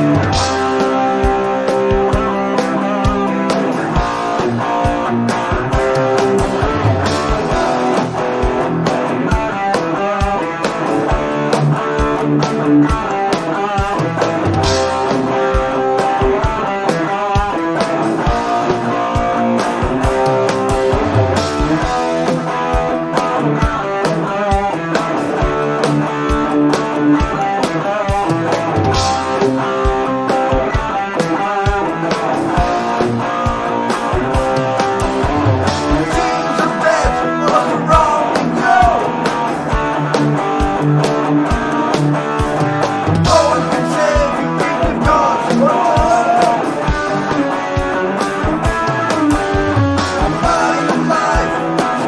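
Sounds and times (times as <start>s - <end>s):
bent guitar lead notes: 0.0s - 52.0s
electric guitars playing metal: 0.0s - 52.0s
programmed drum loop: 0.0s - 52.0s.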